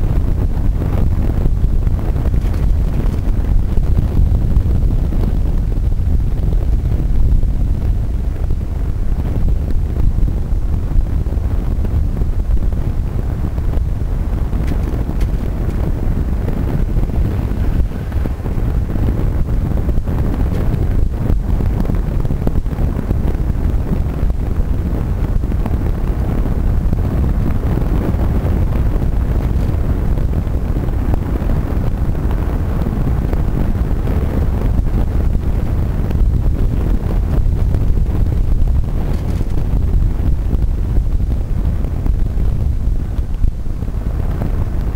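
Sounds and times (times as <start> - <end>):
small tyres rumbling on tarmac: 0.0 - 44.9
wind buffeting microphone: 0.0 - 44.9.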